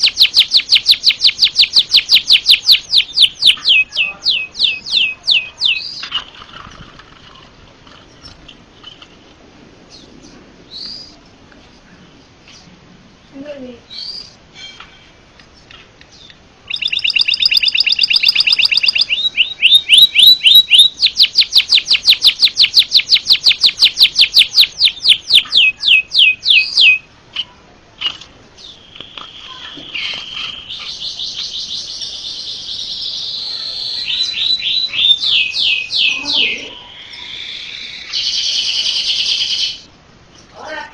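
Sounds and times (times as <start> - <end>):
bird singing trills and warble: 0.0 - 9.2, 15.6 - 40.5.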